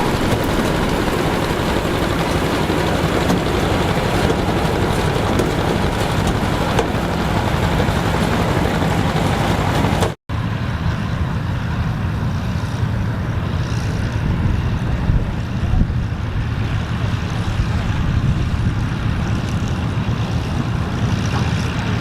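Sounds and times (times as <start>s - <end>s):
farm machinery engine droning: 0.0s - 22.0s.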